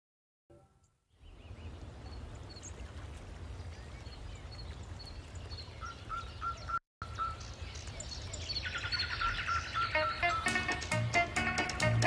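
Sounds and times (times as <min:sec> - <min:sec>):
small birds chirping: 0:00.8 - 0:10.9.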